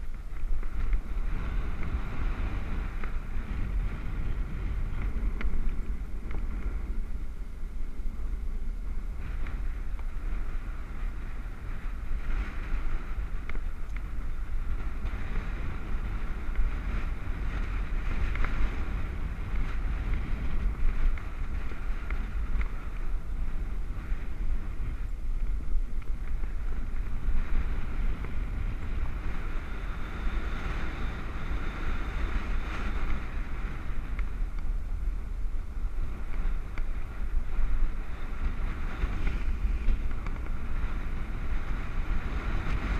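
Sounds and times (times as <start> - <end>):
bike running noise: 0.0 - 42.9
wind rushing over microphone: 0.0 - 42.9.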